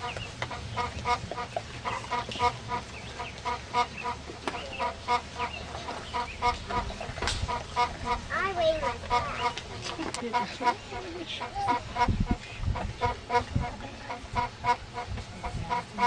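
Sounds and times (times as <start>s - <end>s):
bird clucking rapidly: 0.0s - 16.0s.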